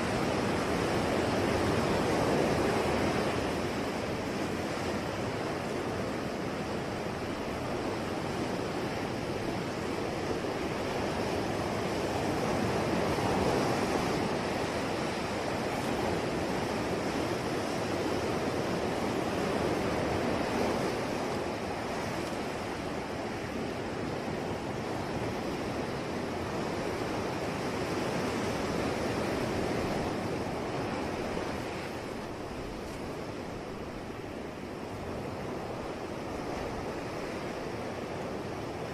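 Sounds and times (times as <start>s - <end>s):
sea surf washing ashore: 0.0s - 38.9s.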